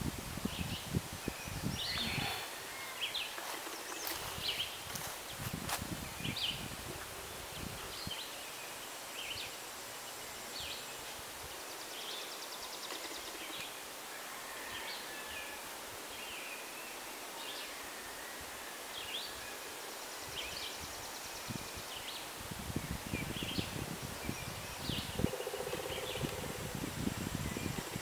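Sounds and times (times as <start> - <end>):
outdoor hiss: 0.0 - 28.0
songbirds chirping: 0.4 - 28.0.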